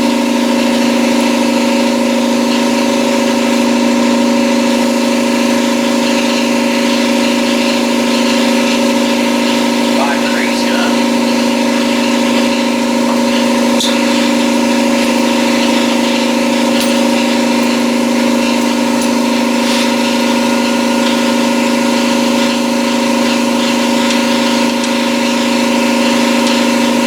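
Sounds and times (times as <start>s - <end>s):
motor humming: 0.0s - 27.0s.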